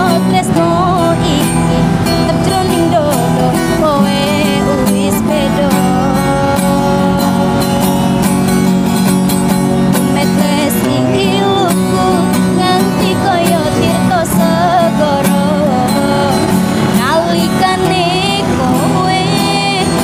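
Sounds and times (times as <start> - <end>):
acoustic guitar accompaniment: 0.0 - 20.0
woman singing with vibrato: 0.0 - 20.0.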